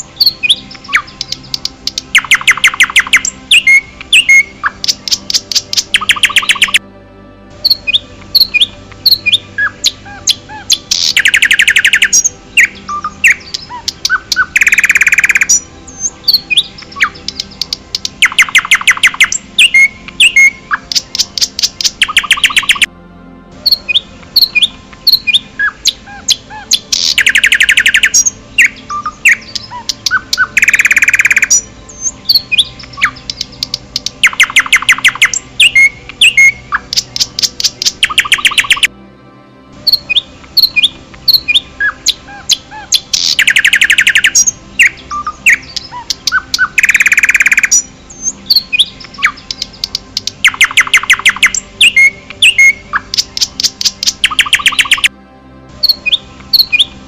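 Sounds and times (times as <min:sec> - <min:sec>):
forest birds chirping: 0:00.0 - 0:57.0.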